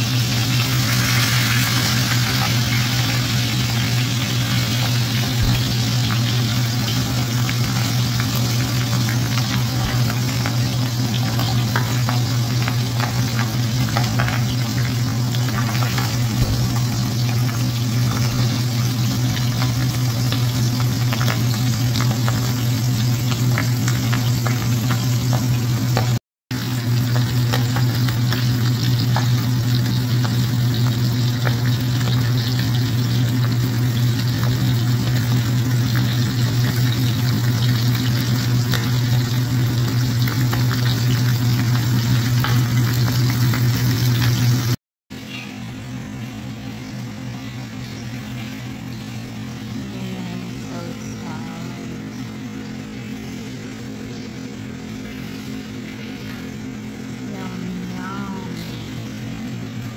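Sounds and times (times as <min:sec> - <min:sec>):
low hum: 0:00.0 - 0:59.9
oil sizzling and crackling: 0:00.0 - 0:59.9.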